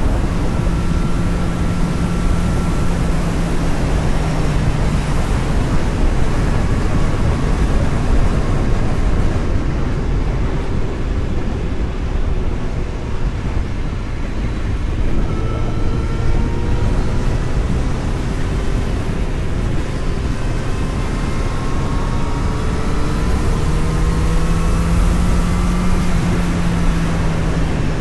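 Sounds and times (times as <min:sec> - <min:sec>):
road noise: 0:00.0 - 0:28.0
vehicle engine: 0:00.0 - 0:28.0.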